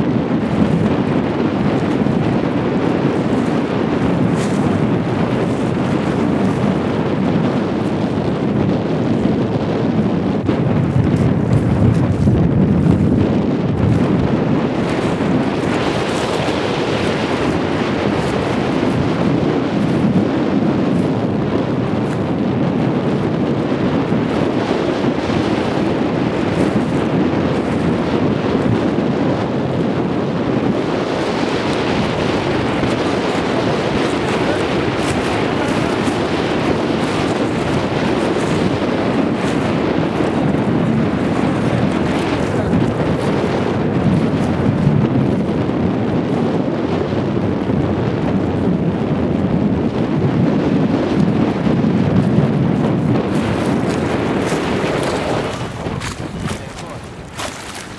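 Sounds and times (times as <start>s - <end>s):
wind on microphone: 0.0s - 57.9s.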